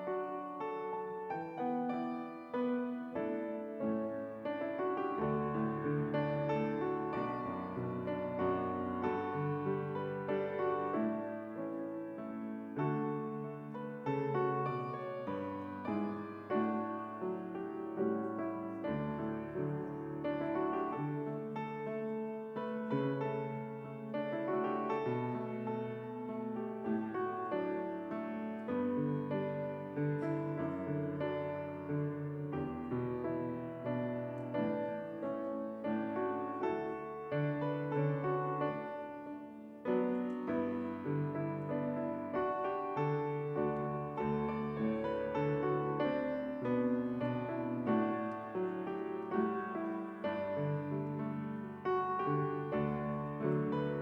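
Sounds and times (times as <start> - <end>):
slow solo piano chords: 0.0 - 54.0.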